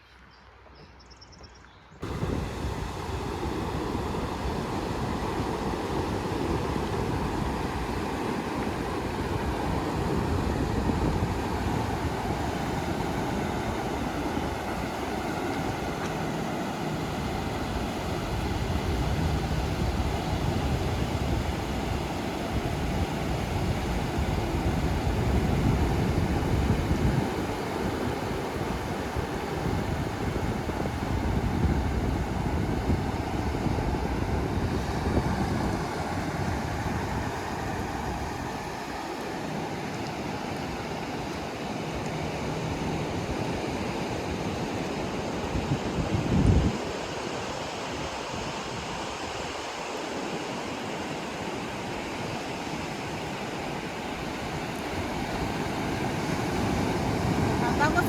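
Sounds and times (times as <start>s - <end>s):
wind buffeting microphone: 2.0s - 49.7s, 51.6s - 58.0s
ocean surf breaking: 2.0s - 58.0s.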